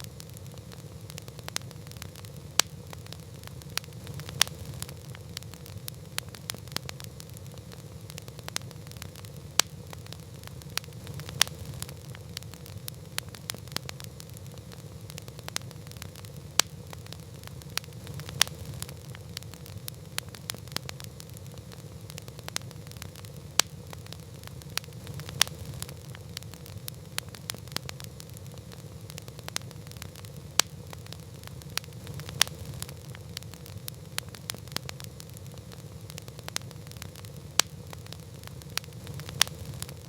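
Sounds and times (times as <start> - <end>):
campfire crackling: 0.0 - 40.0.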